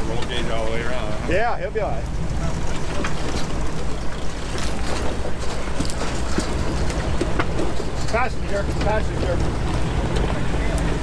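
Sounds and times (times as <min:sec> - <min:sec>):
pickup engine low rumble: 0:00.0 - 0:11.0.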